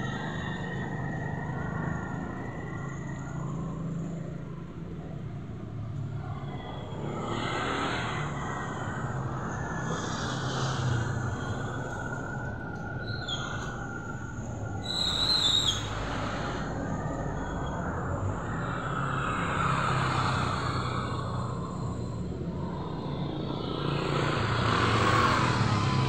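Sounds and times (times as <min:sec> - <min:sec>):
low outdoor rumble: 0:00.0 - 0:26.0
rush of noise: 0:00.0 - 0:26.0.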